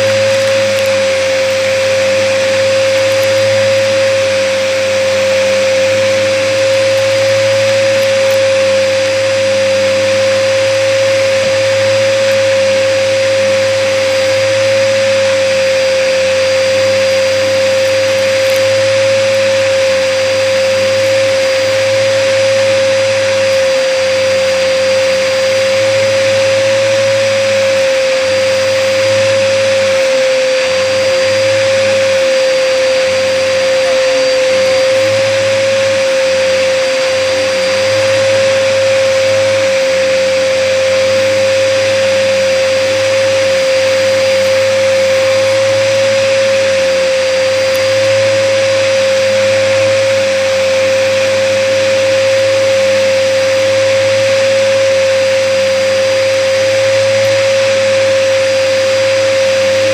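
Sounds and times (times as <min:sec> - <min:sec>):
vacuum cleaner running with high whine: 0:00.0 - 0:59.9.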